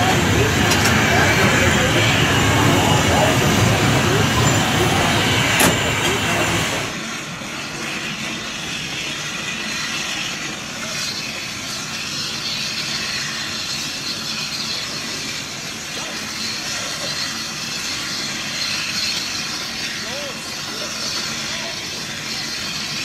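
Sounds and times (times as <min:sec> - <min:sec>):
steam train hiss and rumble: 0:00.0 - 0:23.0.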